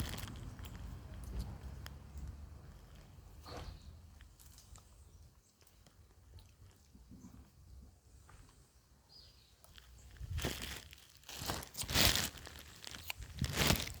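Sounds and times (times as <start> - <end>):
crinkling rustle: 0.0 - 7.5, 9.6 - 14.0.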